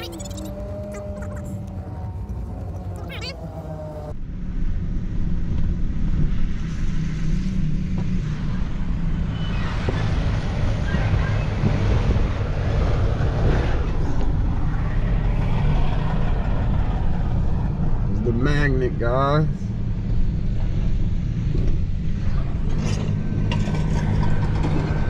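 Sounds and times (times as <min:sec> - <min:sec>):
truck engine and road rumble: 0:00.0 - 0:25.0.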